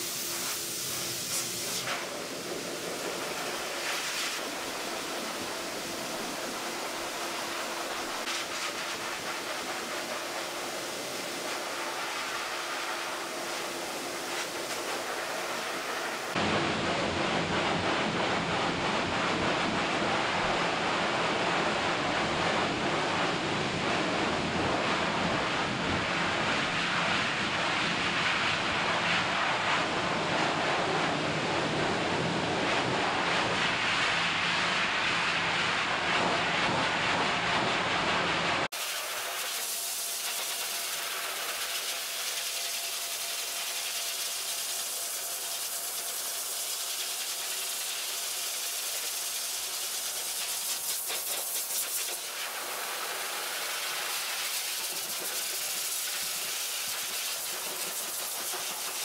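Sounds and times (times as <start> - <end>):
pet dryer blowing air: 0.0 - 59.0.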